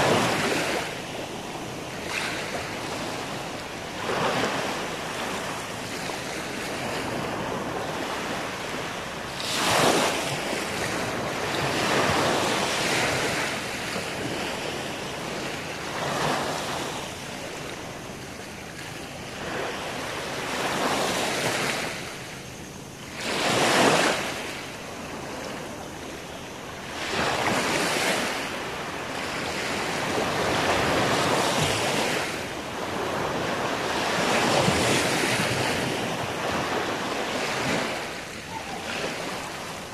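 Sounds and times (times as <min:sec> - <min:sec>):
waves washing up a sandy beach: 0:00.0 - 0:39.9.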